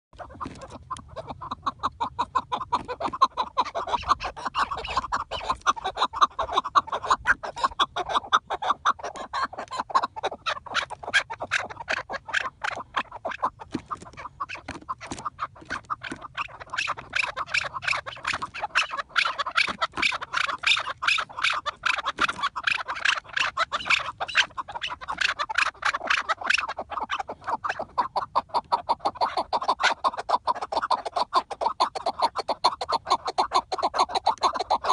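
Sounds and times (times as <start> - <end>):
partridges clucking: 0.2 - 34.9.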